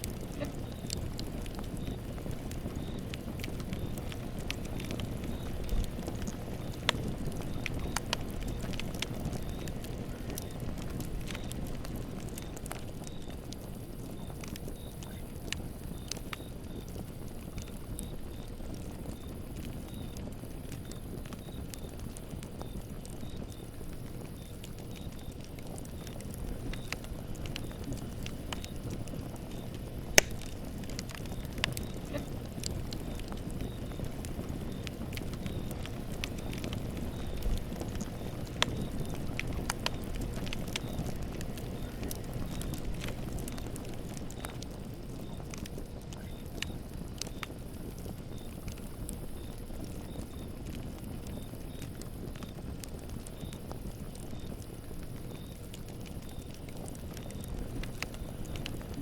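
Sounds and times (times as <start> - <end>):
flames rushing: 0.0 - 59.0
wood crackling and popping: 0.0 - 59.0.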